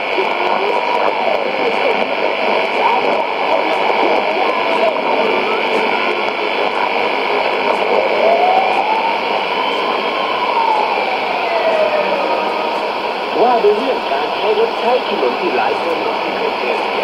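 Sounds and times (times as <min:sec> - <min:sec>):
radio hiss and static: 0:00.0 - 0:17.0
steady high tone: 0:00.0 - 0:17.0.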